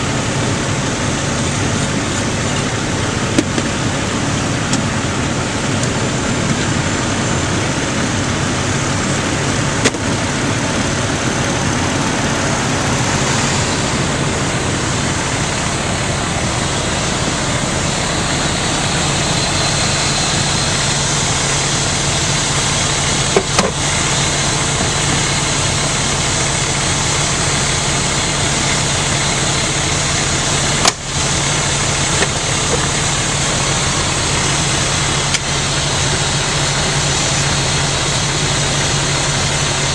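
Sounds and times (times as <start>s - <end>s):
fire engine running: 0.0s - 39.9s.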